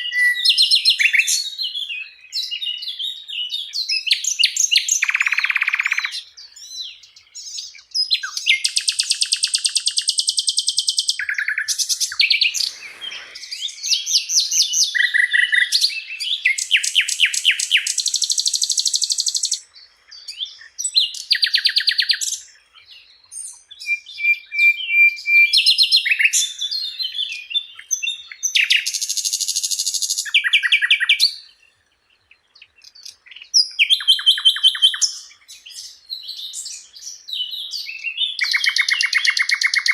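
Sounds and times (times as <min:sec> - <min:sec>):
flycatcher singing trills: 0:00.0 - 0:39.9.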